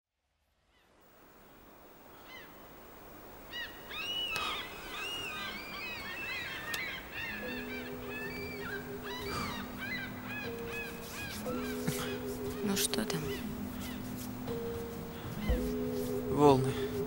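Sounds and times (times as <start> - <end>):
low sustained music tones: 0.9 - 17.0
steady rushing background: 1.1 - 17.0
flock of birds calling: 2.1 - 17.0.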